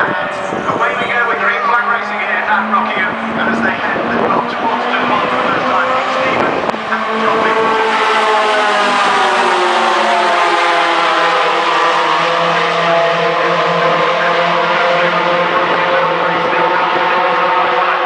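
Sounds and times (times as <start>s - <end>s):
racing truck engines: 0.0s - 18.0s.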